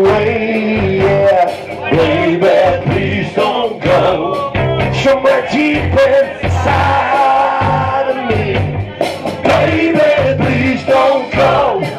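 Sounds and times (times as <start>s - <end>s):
man singing: 0.0s - 11.9s
rock band playing: 0.0s - 11.9s.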